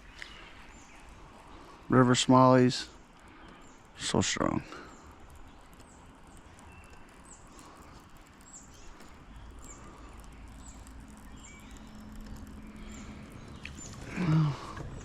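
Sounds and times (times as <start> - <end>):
bird chirping: 0.0 - 15.0
faint outdoor background: 0.0 - 15.0.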